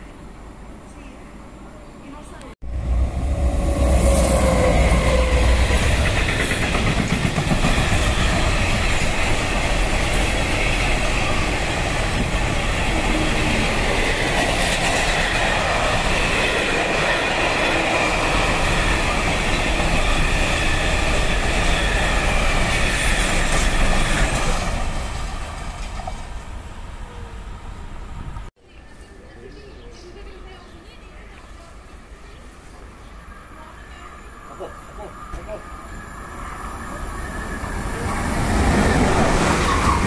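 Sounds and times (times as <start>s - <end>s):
freight train passing: 0.0s - 40.0s.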